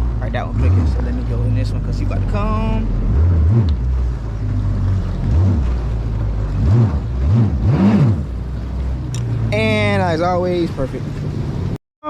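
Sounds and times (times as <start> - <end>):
jet ski engine with throttle blips: 0.0 - 11.8.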